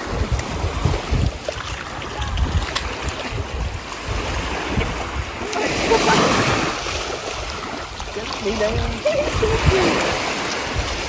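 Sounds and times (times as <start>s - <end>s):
ocean surf on a beach: 0.0s - 11.0s
wind gusting on microphone: 0.0s - 11.0s.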